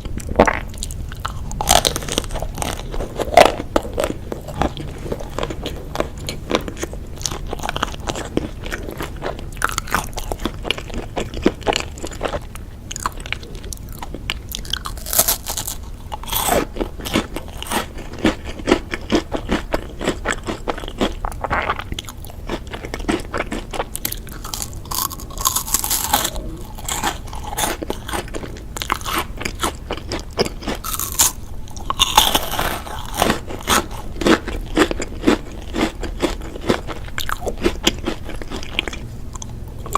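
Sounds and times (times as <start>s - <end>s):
person chewing crunchy snack: 0.0s - 39.9s.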